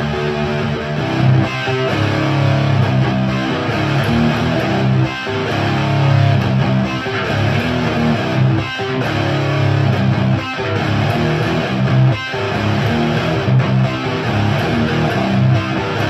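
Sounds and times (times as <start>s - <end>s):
electric guitar chords and riffs: 0.0s - 16.0s.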